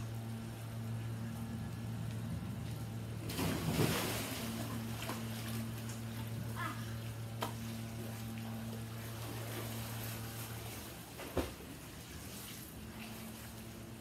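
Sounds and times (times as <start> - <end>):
steady low hum: 0.0 - 14.0
water sloshing in pool: 0.0 - 14.0.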